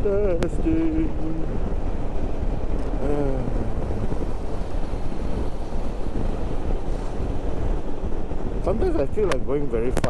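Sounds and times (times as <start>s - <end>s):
road and engine noise: 0.0s - 10.0s
wind rumbling on microphone: 0.0s - 10.0s.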